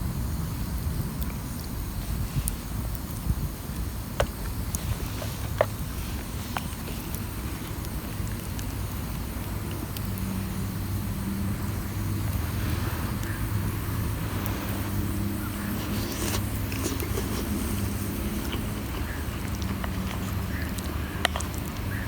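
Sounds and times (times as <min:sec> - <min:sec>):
engine humming steadily: 0:01.8 - 0:22.0.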